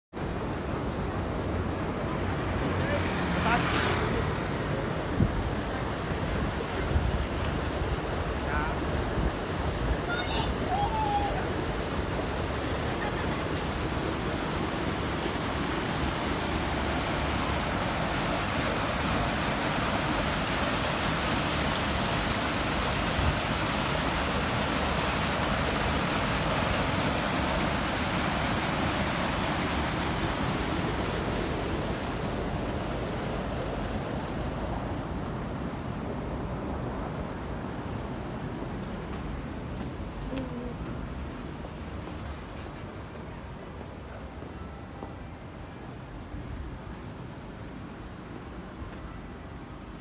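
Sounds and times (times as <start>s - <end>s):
water rushing over a weir: 0.2s - 50.0s.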